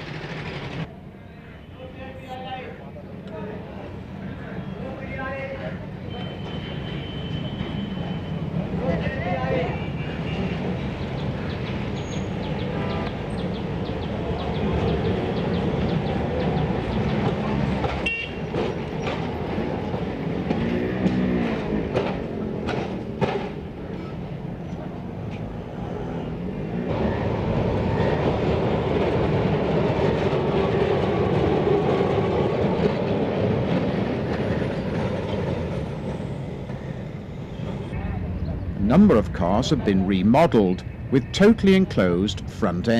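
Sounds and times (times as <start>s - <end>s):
tram wheels clattering over rails: 0.0s - 0.9s, 5.6s - 39.8s
tram rumbling: 0.0s - 42.9s.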